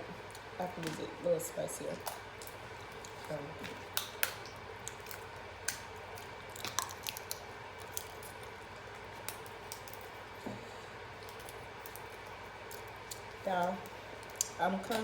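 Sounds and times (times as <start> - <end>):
squishy wet crab meat: 0.0 - 15.0
crab shell cracking: 2.0 - 10.4, 11.0 - 15.0.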